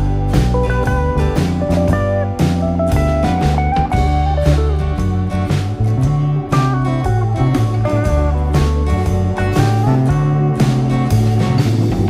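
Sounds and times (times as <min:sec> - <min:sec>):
blues guitar music: 0:00.0 - 0:12.0.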